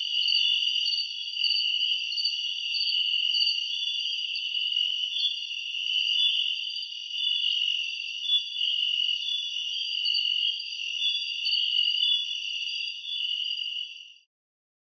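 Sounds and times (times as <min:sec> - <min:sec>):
crickets and insects chirping: 0:00.0 - 0:14.2.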